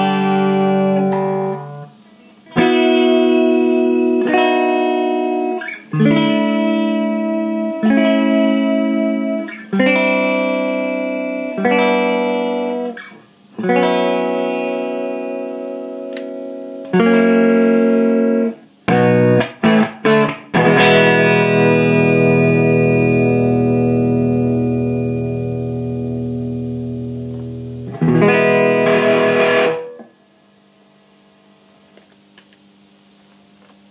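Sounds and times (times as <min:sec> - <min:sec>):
electric guitar chord stabs: 0:00.0 - 0:30.2
electric guitar chords ringing: 0:00.0 - 0:31.7.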